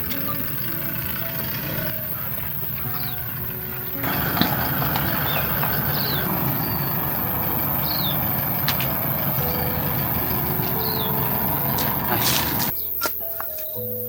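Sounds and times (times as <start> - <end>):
engine low rumble: 0.0 - 12.7.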